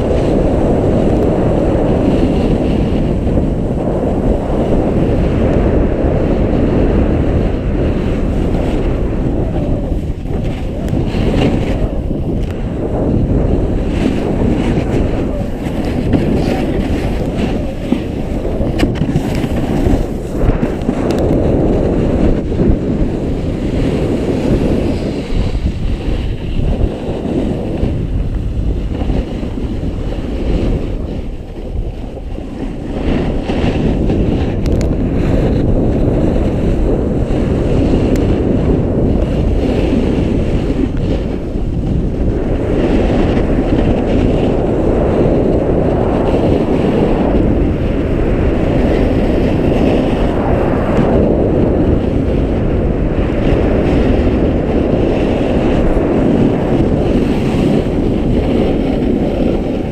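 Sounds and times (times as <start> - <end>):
snowboard scraping snow: 0.0 - 59.9
wind on microphone: 0.0 - 59.9.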